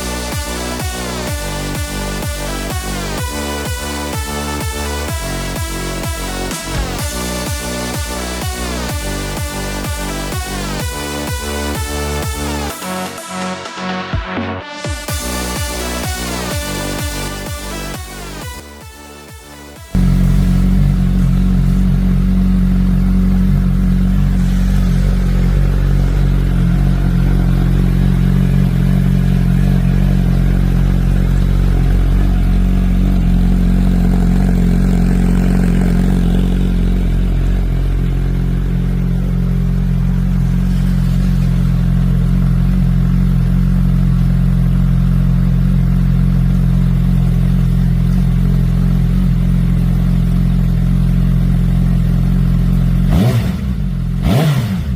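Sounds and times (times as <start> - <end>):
motorcycle engine deep exhaust: 0.0 - 12.8, 19.9 - 54.9.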